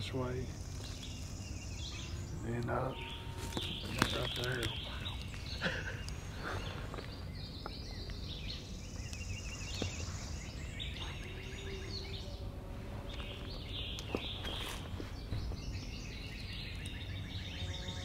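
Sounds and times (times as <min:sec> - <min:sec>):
low background rumble: 0:00.0 - 0:18.0
songbirds chirping and trilling: 0:00.0 - 0:18.0.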